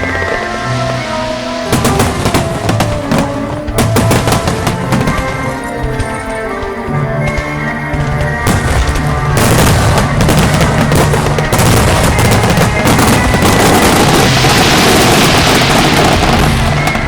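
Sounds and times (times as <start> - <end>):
fireworks bursting: 0.0 - 17.0
hissing crackle of fireworks: 0.0 - 17.0
music: 0.0 - 17.0.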